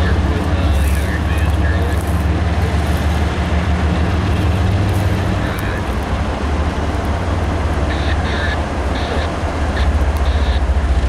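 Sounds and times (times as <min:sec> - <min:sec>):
diesel locomotive engine droning: 0:00.0 - 0:11.0.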